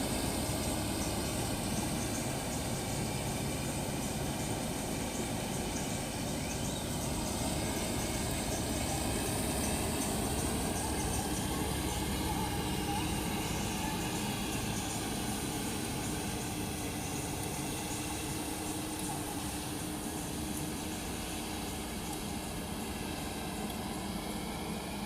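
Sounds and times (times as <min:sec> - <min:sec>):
harvesting machine engine drone: 0:00.0 - 0:25.0.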